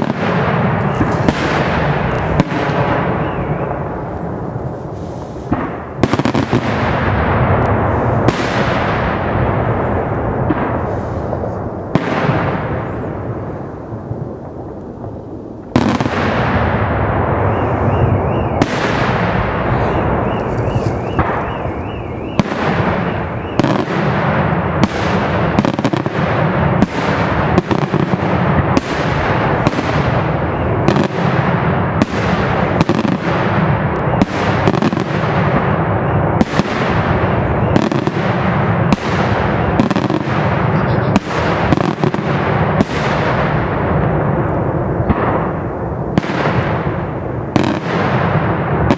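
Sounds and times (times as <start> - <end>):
echoing rumble: 0.0 - 47.5
fireworks bursting with bangs: 0.0 - 48.9.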